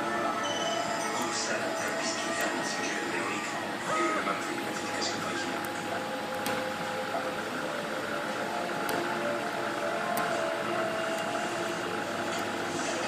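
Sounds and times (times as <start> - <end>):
cooling fan hiss: 0.0 - 13.0
stepper motors whining: 0.0 - 13.0.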